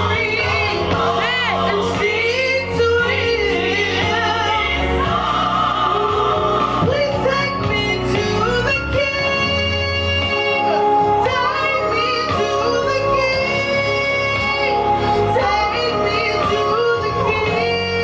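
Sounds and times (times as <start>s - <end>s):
woman singing: 0.0s - 5.2s, 6.8s - 18.0s.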